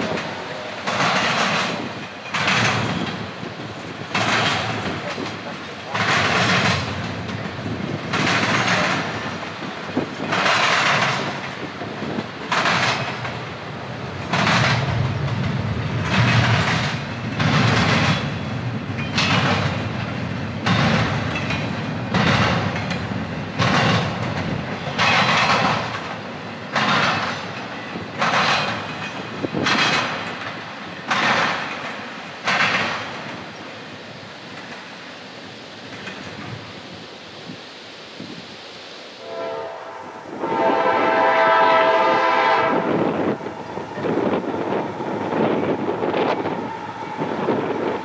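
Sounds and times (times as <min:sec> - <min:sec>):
train wheels clacking over rail breaks: 0:00.0 - 0:36.8, 0:40.4 - 0:48.0
train rolling rumble: 0:00.0 - 0:48.0.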